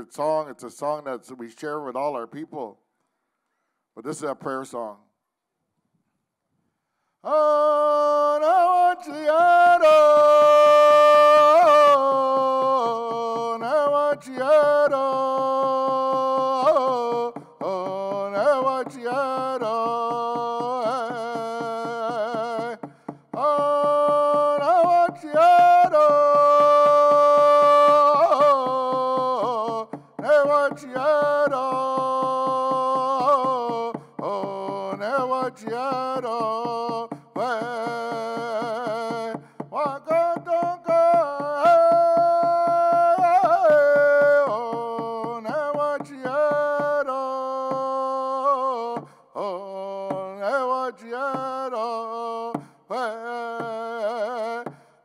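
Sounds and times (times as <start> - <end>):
man singing: 0.0 - 2.7, 4.0 - 5.0, 7.2 - 55.0
hand drum beat: 8.5 - 54.9.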